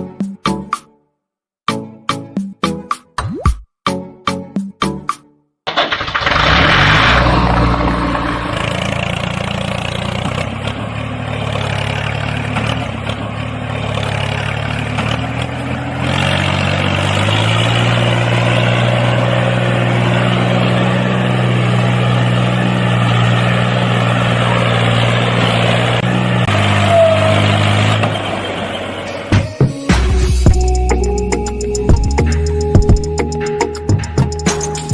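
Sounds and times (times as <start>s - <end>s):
tractor engine running: 5.7s - 34.9s.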